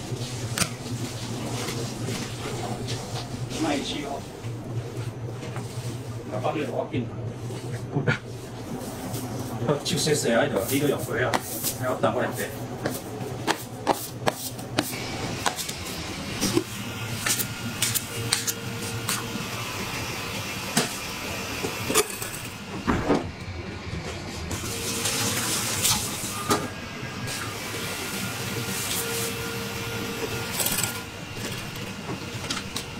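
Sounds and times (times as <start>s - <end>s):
background hum and hiss: 0.0s - 32.9s.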